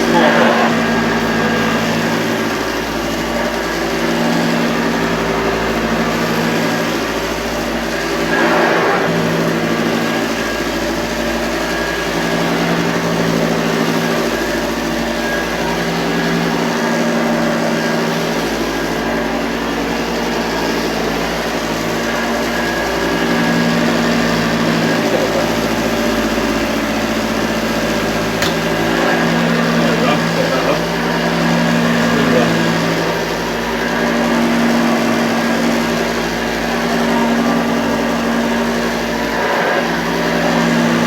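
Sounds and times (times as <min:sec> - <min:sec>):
vacuum cleaner whining: 0:00.0 - 0:41.0.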